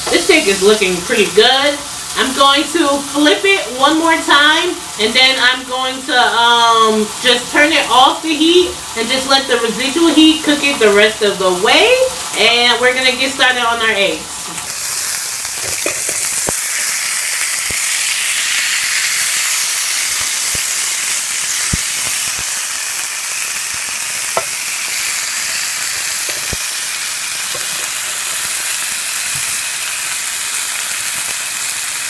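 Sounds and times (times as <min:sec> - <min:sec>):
steak sizzling in a skillet: 0:00.0 - 0:32.0.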